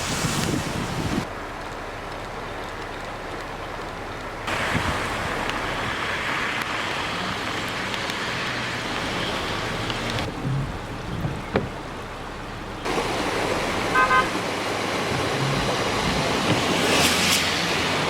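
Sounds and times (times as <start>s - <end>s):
heavy rain: 0.0s - 18.0s
running water: 0.0s - 18.0s.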